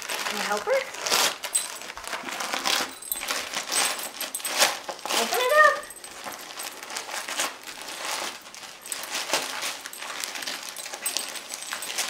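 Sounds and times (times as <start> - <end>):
wrapping paper crinkling and ripping: 0.0 - 12.0.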